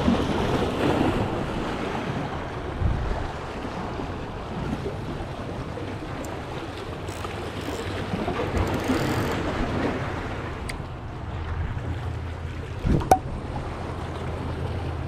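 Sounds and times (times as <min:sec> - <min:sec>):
sea surf washing: 0:00.0 - 0:15.0
wind rumbling on microphone: 0:00.0 - 0:15.0.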